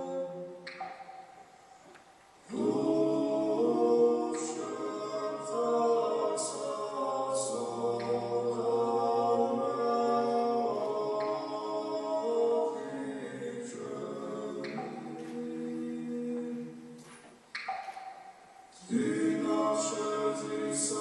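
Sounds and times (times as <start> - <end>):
choir singing sustained chords: 0.0 - 1.8, 2.4 - 17.1, 18.0 - 21.0.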